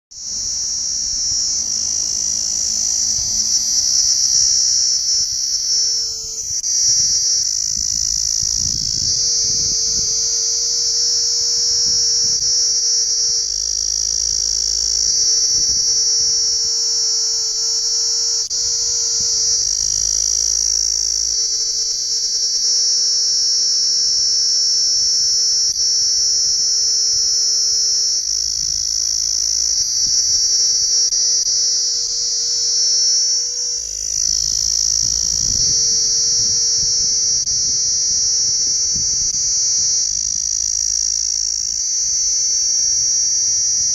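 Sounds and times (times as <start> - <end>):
cicadas buzzing in chorus: 0.1 - 43.9.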